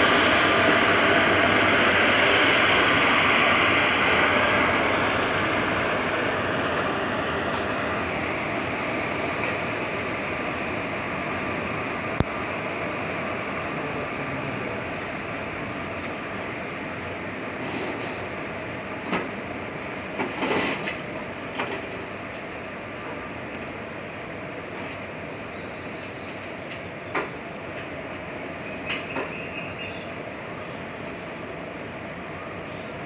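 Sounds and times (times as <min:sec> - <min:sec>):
train wheels rolling on rails: 0:00.0 - 0:33.0.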